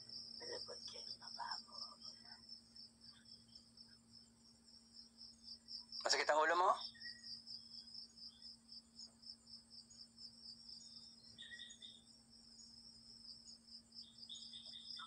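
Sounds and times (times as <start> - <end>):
crickets chirping: 0.0 - 15.0
low steady hum: 0.0 - 15.0.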